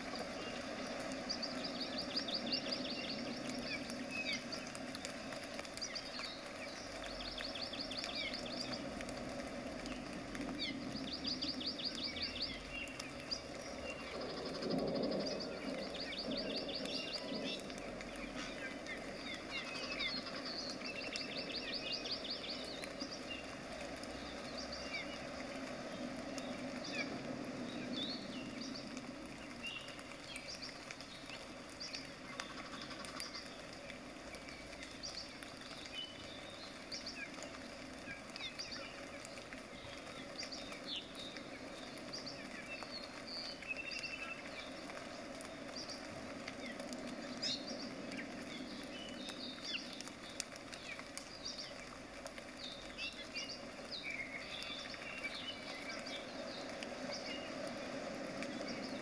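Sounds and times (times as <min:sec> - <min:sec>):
low background noise: 0:00.0 - 0:59.0.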